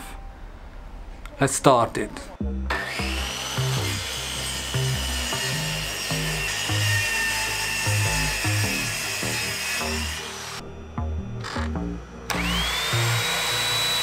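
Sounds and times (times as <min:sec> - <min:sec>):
circular saw cutting wood: 0:02.7 - 0:14.0.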